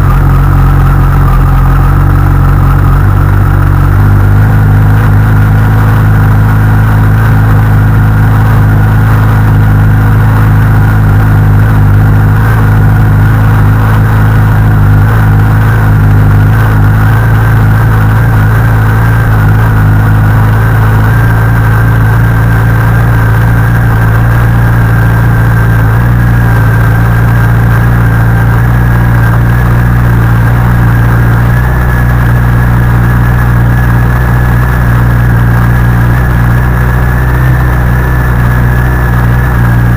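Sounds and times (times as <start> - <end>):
mechanical engine noise: 0.0 - 39.9
motorcycle engine idling: 0.0 - 39.9.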